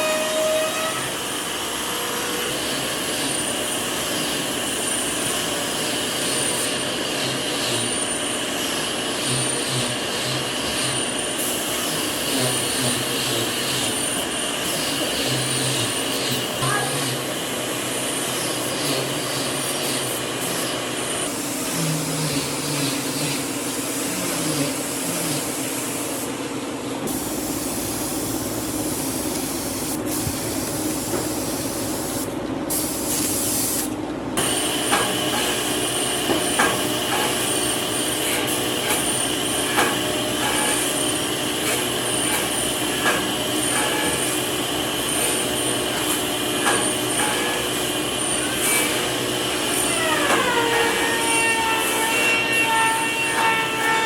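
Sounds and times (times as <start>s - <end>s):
woodworking power tools running: 0.0s - 54.0s.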